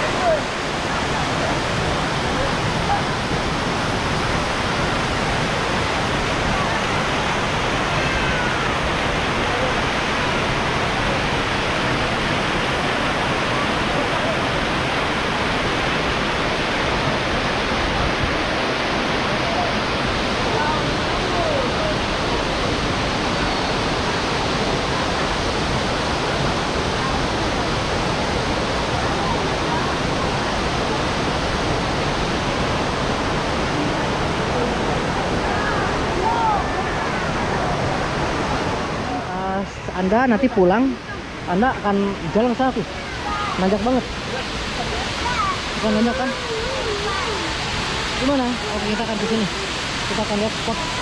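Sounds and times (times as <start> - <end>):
faint voices: 0.0 - 51.0
stream over rocks: 0.0 - 51.0
waterfall rushing: 0.0 - 51.0.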